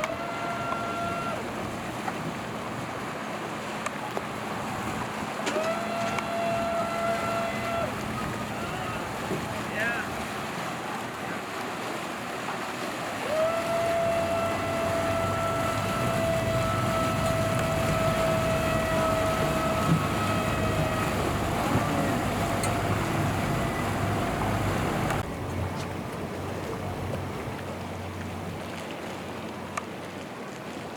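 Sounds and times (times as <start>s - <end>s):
motorboat engine passing: 0.0s - 30.9s
water noise: 0.0s - 30.9s
wind: 0.0s - 30.9s.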